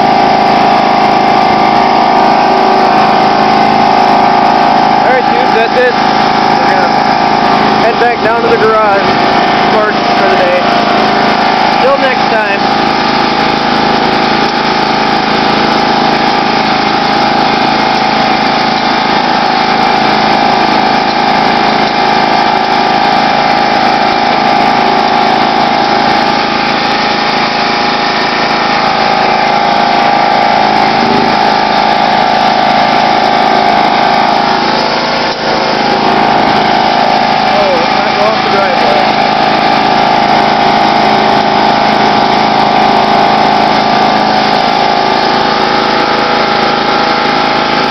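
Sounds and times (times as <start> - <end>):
lawn tractor engine running: 0.0 - 47.9
steady whine: 0.0 - 47.9.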